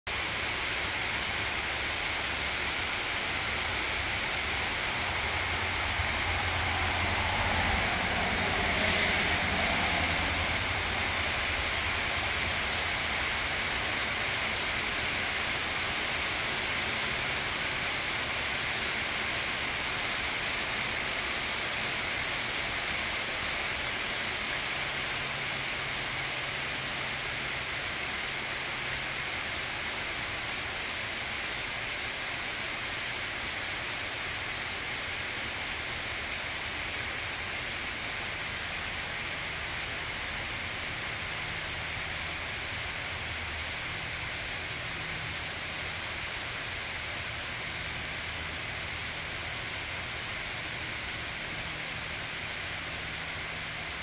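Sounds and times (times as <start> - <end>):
rain falling steadily: 0.1 - 54.0.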